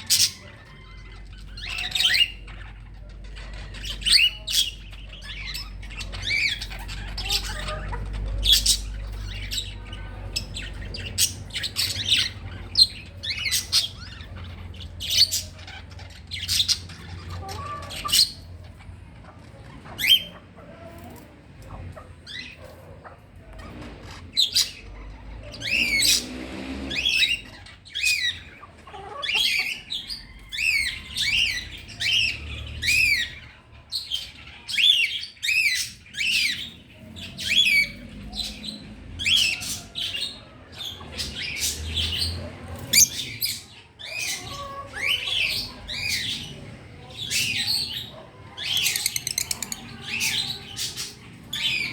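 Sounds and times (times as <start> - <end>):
birds squawking: 0.0 - 51.9.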